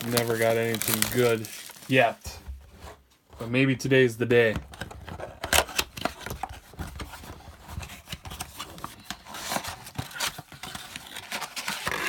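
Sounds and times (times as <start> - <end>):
cardboard and plastic crinkling: 0.0 - 2.7, 4.5 - 12.0.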